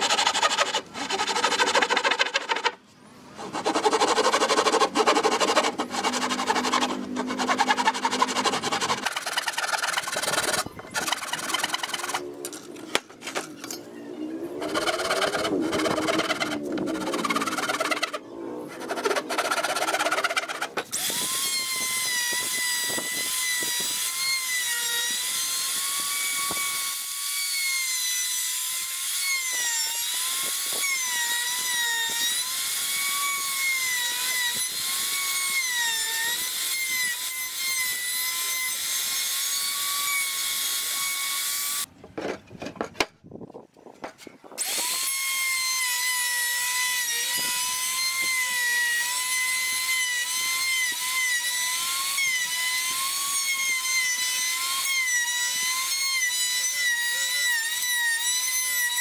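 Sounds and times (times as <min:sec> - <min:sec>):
power tool whining into wood: 0:00.0 - 0:02.8, 0:03.4 - 0:41.9, 0:44.5 - 0:59.0.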